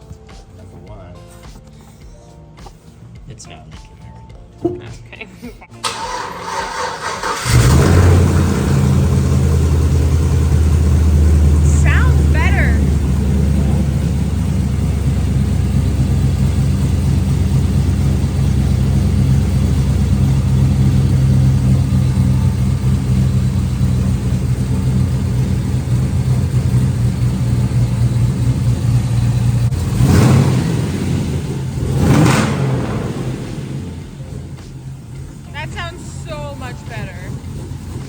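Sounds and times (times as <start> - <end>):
car engine idling: 5.8 - 38.0.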